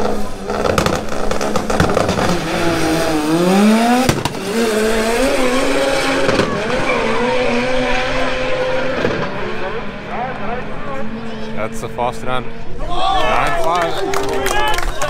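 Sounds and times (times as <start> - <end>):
racing car accelerating hard: 0.0 - 14.3.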